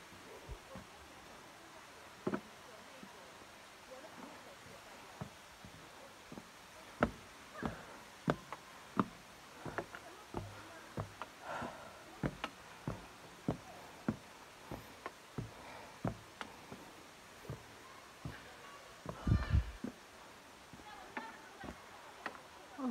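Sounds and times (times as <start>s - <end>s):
footsteps on wooden stairs: 2.2s - 2.5s, 4.1s - 22.9s.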